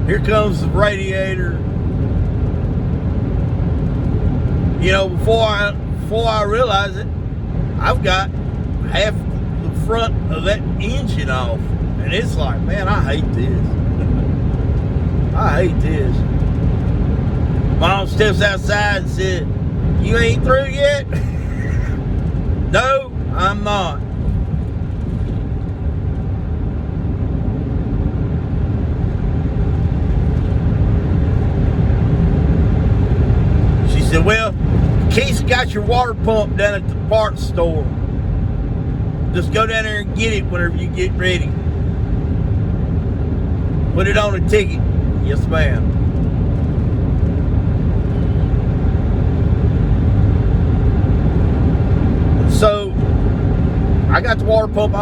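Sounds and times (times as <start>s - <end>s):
road and engine rumble in cabin: 0.0s - 55.0s.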